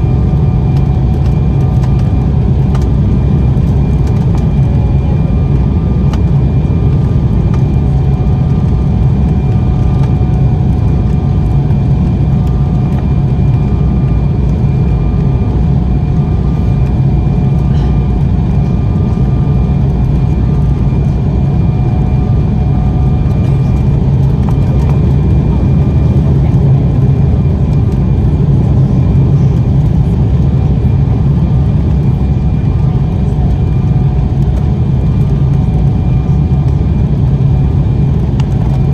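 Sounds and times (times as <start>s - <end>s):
engine and airflow rumble: 0.0s - 38.9s
turbofan whine: 0.0s - 38.9s.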